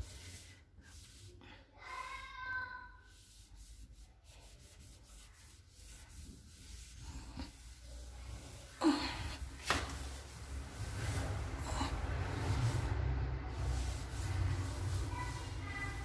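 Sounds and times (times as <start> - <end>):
hand scrubbing a surface: 0.0 - 16.0.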